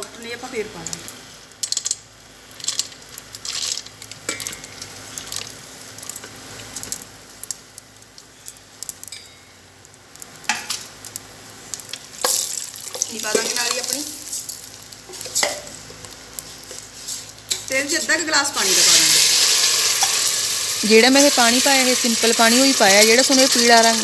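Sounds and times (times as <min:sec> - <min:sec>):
nuts sizzling in hot fat: 0:00.0 - 0:24.0
nuts clicking on pot: 0:00.8 - 0:09.3, 0:10.2 - 0:16.2, 0:18.9 - 0:24.0.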